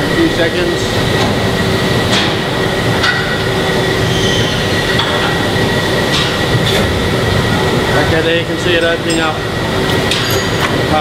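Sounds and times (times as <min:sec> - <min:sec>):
injection moulding machine running: 0:00.0 - 0:11.0.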